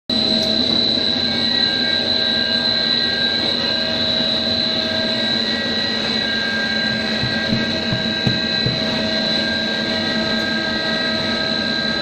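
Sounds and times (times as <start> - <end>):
high machine whine: 0.1 - 12.0
machinery drone: 0.1 - 12.0.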